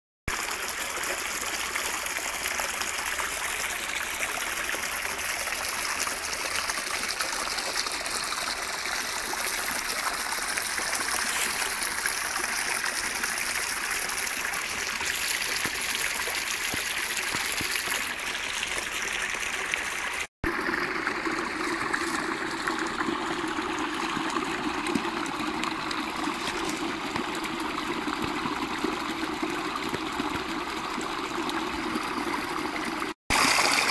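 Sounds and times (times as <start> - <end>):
brook flowing over stones: 0.3 - 33.9
water pouring over rocky ledge: 0.3 - 33.9.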